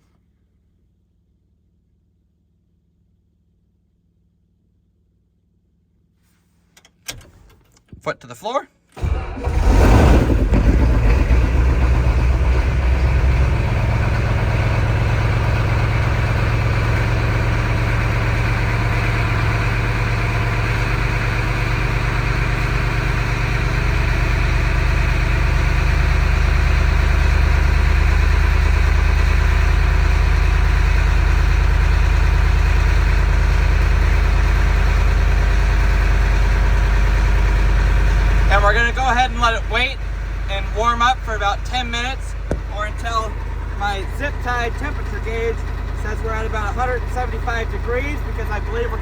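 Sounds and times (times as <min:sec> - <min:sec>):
diesel engine starting and idling: 0:09.0 - 0:49.0.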